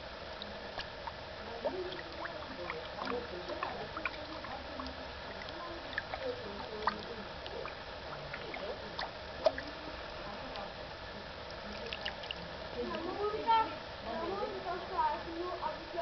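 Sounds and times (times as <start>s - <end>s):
small water splashes: 0.0s - 15.9s.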